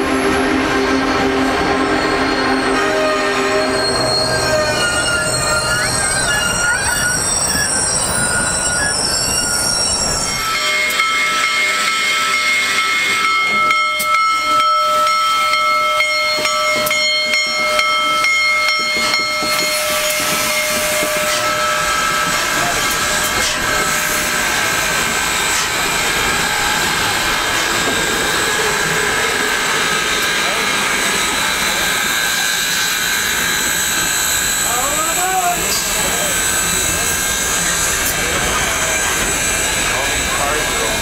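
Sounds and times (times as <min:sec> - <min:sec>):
train wheel rumble: 0:00.0 - 0:41.0
high-pitched wheel squeal: 0:00.1 - 0:12.3, 0:16.2 - 0:40.6.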